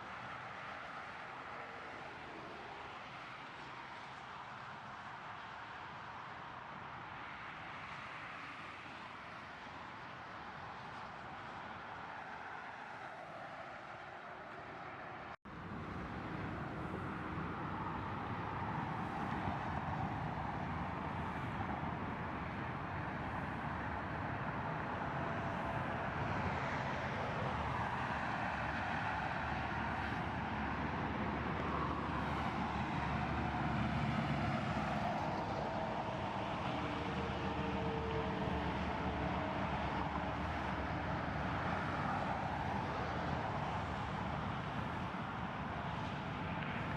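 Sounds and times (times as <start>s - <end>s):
vehicle traffic noise: 0.0s - 46.9s.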